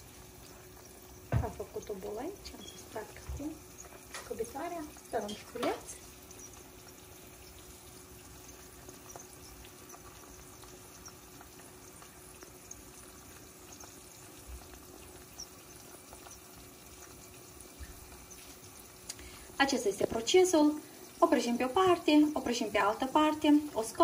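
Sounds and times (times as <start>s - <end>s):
faint steady hum: 0.0s - 24.0s
oil sizzling in a pan: 0.0s - 24.0s.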